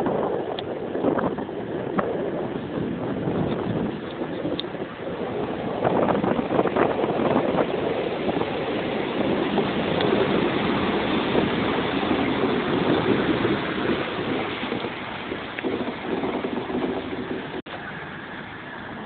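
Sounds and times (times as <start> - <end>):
diesel train rumbling: 0.0 - 19.0.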